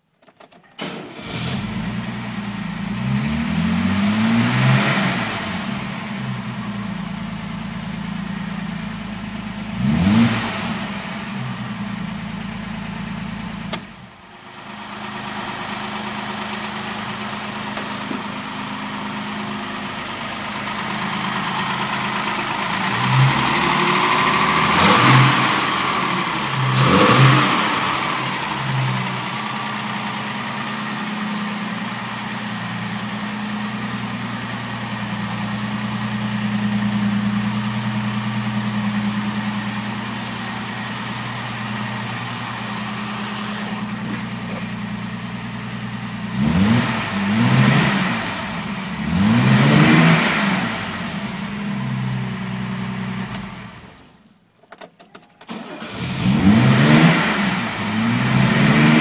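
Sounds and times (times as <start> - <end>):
car engine idling and revving: 0.8 - 54.3, 55.1 - 59.0.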